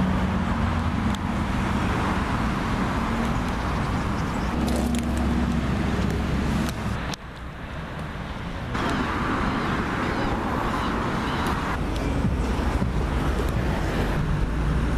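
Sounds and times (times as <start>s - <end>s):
cars passing: 0.0s - 14.9s.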